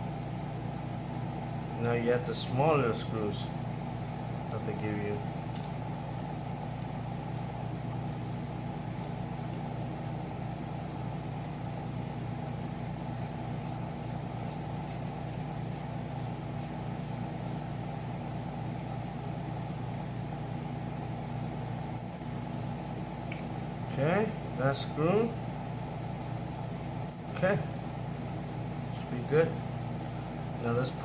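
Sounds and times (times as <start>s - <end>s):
air conditioner humming: 0.0s - 31.0s.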